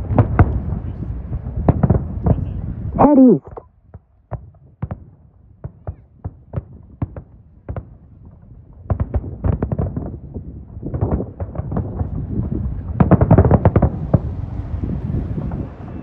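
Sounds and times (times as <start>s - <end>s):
fireworks bangs and booms: 0.0s - 16.0s.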